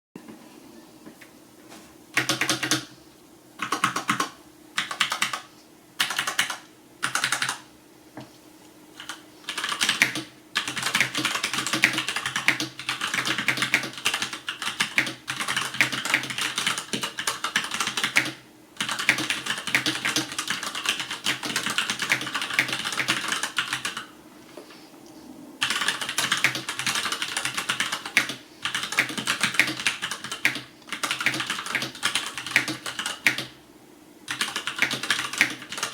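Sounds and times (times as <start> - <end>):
typing on mechanical keyboard: 2.2 - 2.9, 3.6 - 7.6, 9.0 - 24.1, 25.6 - 33.6, 34.3 - 35.9.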